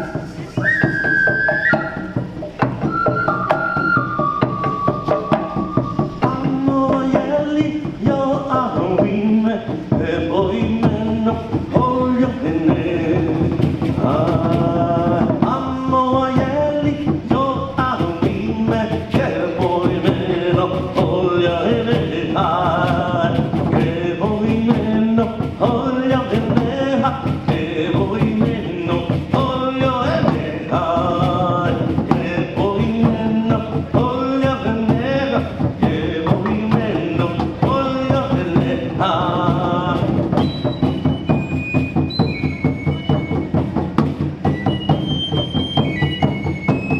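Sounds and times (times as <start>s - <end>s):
chanted vocal line: 0.0s - 41.6s
dense drum beats: 0.0s - 46.9s.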